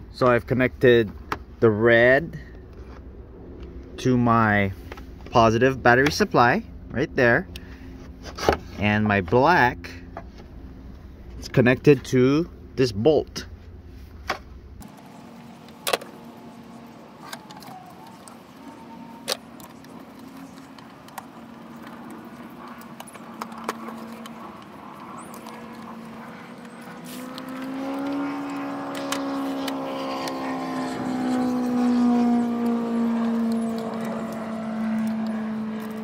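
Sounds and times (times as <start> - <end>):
engine drone: 0.0 - 36.0.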